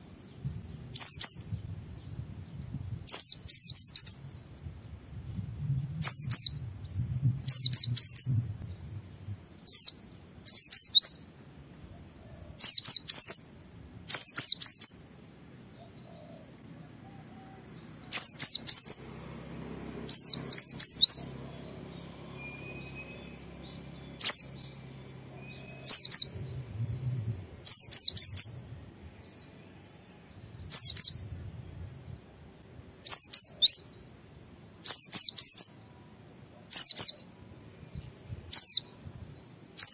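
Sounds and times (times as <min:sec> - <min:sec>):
bird singing chattering phrases: 0:00.0 - 0:04.5, 0:05.6 - 0:16.7, 0:17.7 - 0:32.2, 0:33.0 - 0:39.9.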